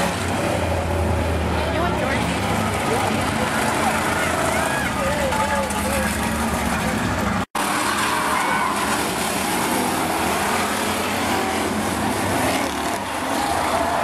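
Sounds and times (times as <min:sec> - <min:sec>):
race car engines: 0:00.0 - 0:14.0
spectators' voices: 0:01.4 - 0:14.0.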